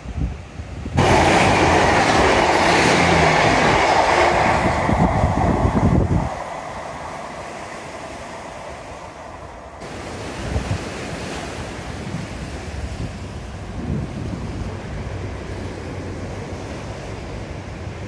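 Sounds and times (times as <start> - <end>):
wind buffeting microphone: 0.0 - 18.0
sea surf washing on beach: 1.0 - 18.0.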